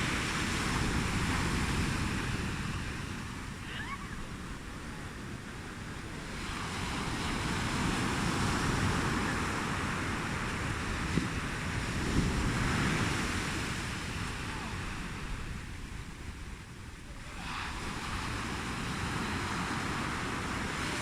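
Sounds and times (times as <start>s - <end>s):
ocean surf washing onto beach: 0.0s - 21.0s
wind rumbling on microphone: 0.0s - 21.0s.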